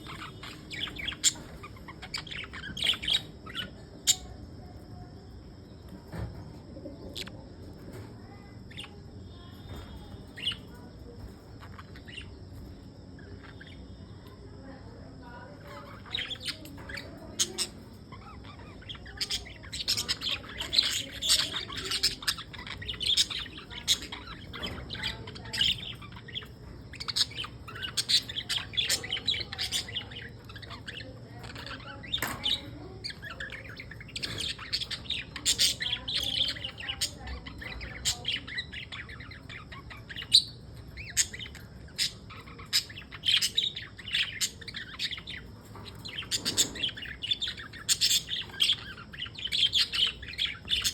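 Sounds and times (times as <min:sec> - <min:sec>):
budgerigars chattering and chirping: 0:00.0 - 0:50.9.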